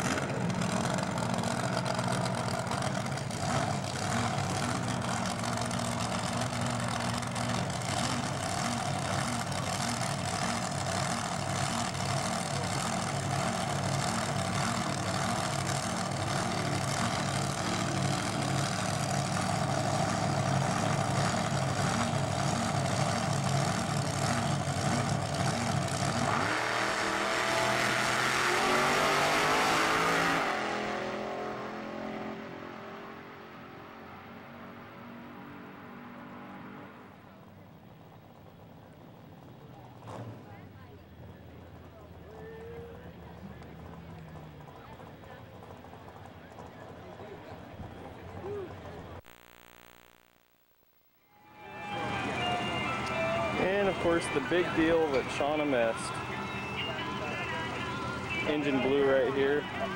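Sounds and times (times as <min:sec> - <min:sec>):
dragster engine idling and accelerating: 0:00.0 - 0:49.3, 0:51.7 - 0:59.9.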